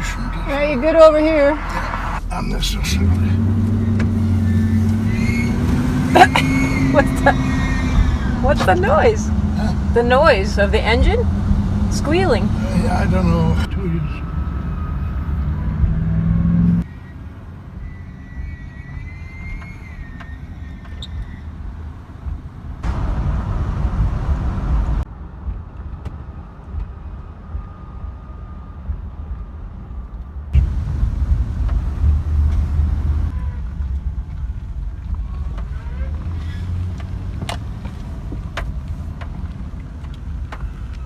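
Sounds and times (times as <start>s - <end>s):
vehicle engine rumbling: 0.0s - 41.0s.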